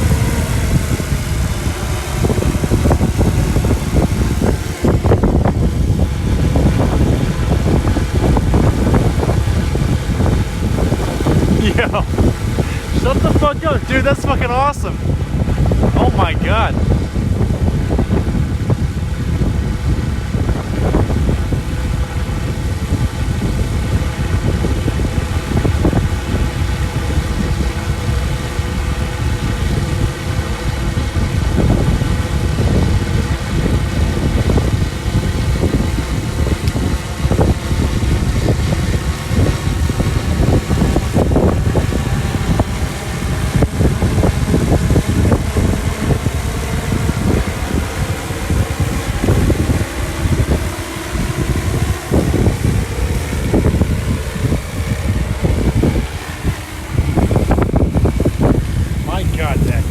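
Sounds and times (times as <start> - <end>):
aircraft engine droning: 0.0 - 59.9
wind rumble on microphone: 0.0 - 59.9.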